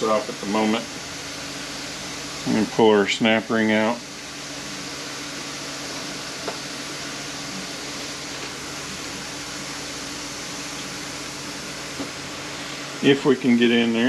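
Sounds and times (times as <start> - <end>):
fan whirring: 0.0 - 14.0.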